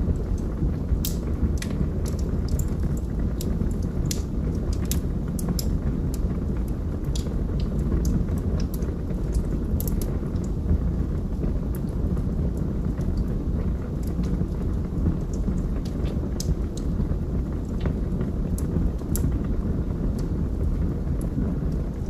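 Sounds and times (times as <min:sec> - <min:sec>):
burning logs crackling and popping: 0:00.0 - 0:22.0
flames rumbling: 0:00.0 - 0:22.0.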